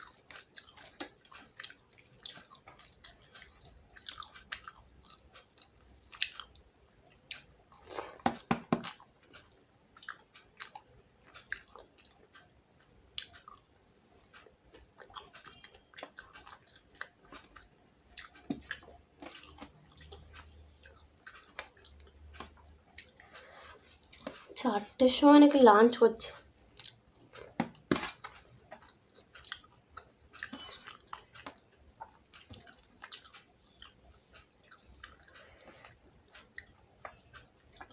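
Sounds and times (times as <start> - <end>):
person chewing food: 0.0 - 24.6, 26.4 - 37.9.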